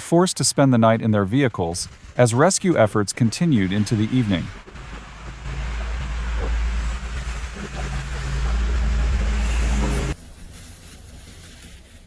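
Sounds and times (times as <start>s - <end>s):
vehicle engine hum: 0.9s - 12.0s
road or wind noise: 1.3s - 12.0s.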